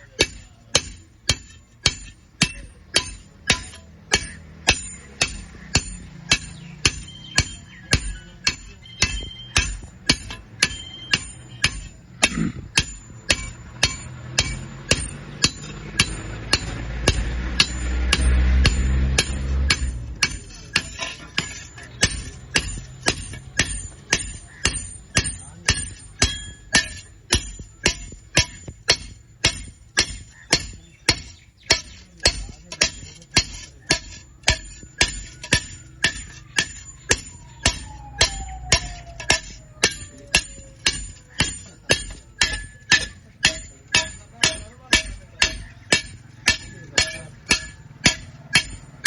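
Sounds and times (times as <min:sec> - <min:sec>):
hammer striking iron: 0:00.0 - 0:49.0.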